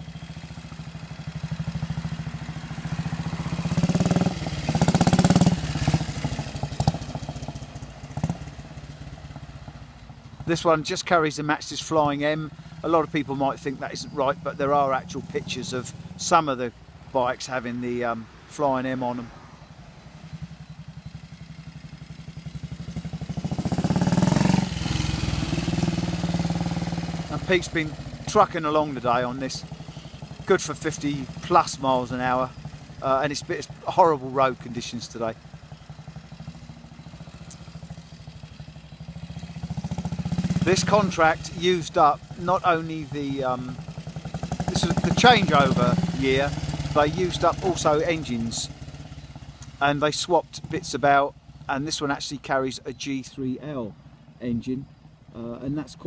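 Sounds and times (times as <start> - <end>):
motorcycle engine running: 0.0 - 17.2, 20.0 - 52.0.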